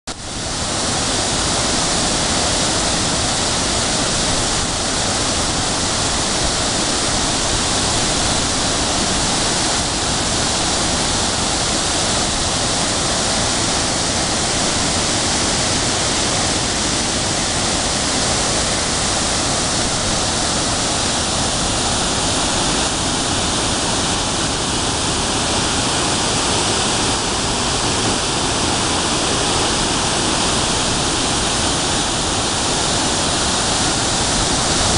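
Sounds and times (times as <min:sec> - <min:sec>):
waterfall roaring: 0:00.1 - 0:34.9.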